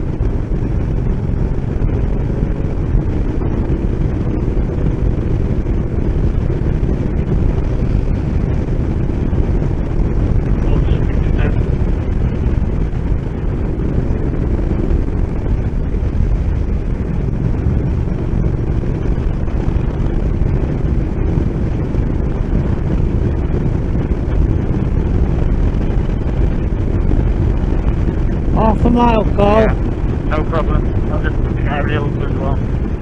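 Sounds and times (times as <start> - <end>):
motorcycle engine running: 0.0 - 33.0
wind rushing: 0.0 - 33.0.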